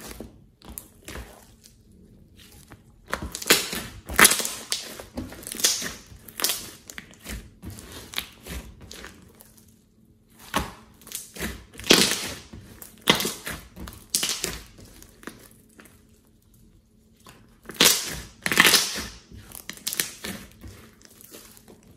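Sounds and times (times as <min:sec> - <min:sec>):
slime squelching and popping: 0:00.0 - 0:21.9.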